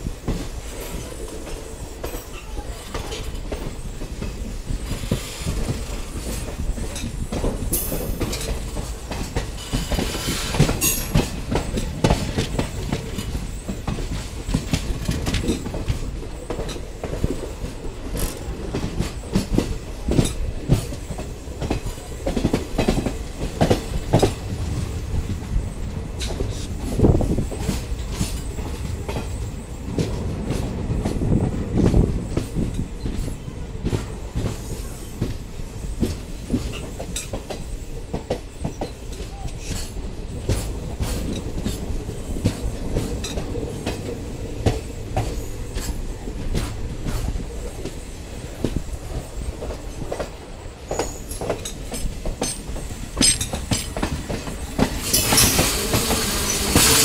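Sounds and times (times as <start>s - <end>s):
train rumbling on track: 0.0s - 57.0s
wheels clicking over rail joints: 0.2s - 24.8s, 25.5s - 57.0s.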